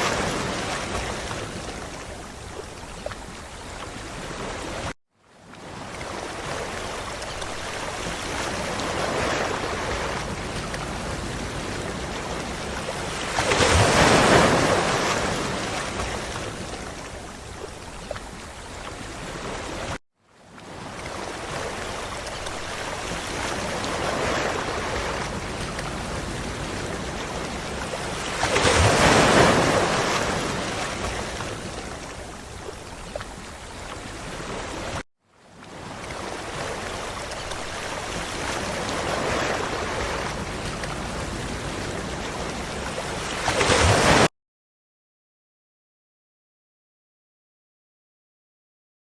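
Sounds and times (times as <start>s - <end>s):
wave breaking: 0.0s - 5.0s, 5.6s - 17.3s, 20.7s - 35.0s, 35.7s - 44.3s.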